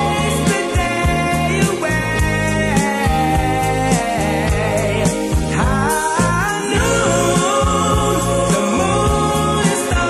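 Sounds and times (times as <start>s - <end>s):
song with beat and singing: 0.0s - 10.0s.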